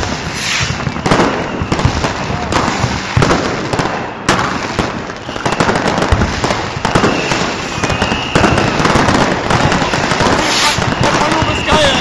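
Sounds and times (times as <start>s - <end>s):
firework whistle: 0.0s - 12.0s
fireworks banging and crackling: 0.0s - 12.0s.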